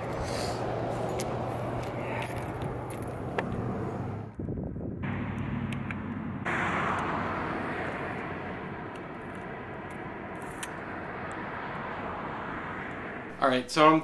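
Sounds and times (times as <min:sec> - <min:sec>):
passing vehicles rushing: 0:00.0 - 0:14.0.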